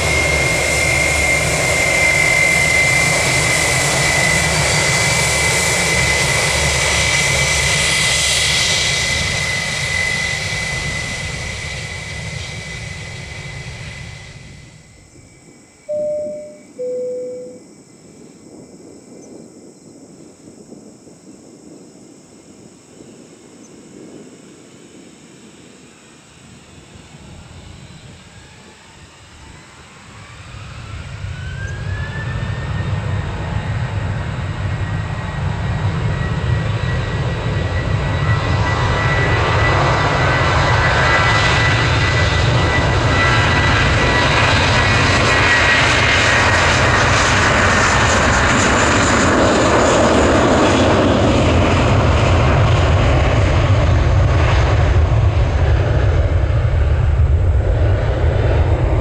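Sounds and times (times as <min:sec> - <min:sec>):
jet engine roar: 0:00.0 - 0:19.4, 0:20.4 - 0:59.0
jet engine whine: 0:00.0 - 0:59.0.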